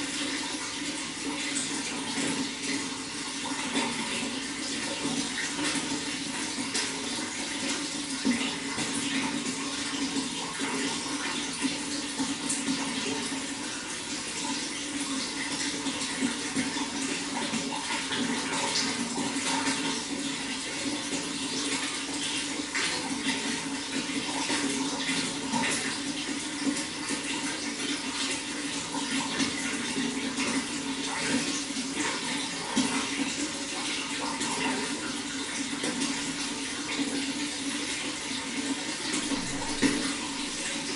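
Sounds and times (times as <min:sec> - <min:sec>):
running water rushing: 0:00.0 - 0:40.9
small water splashes: 0:00.0 - 0:40.9.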